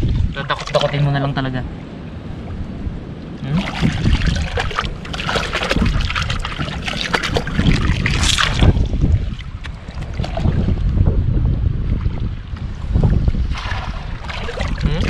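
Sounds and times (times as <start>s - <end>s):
water splashing and trickling: 0.0s - 1.9s, 3.2s - 15.0s
wind rumble on microphone: 0.0s - 15.0s.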